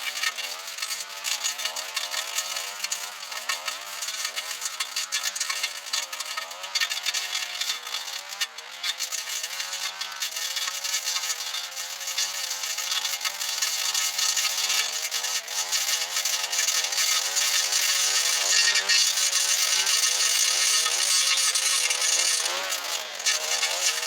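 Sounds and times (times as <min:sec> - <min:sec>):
two-stroke engine running: 0:00.1 - 0:24.0.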